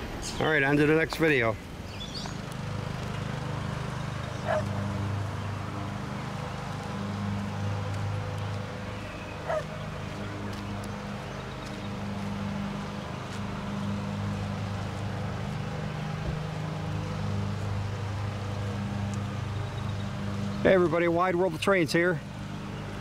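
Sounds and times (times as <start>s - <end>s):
locomotive engine drone: 0.0s - 23.0s.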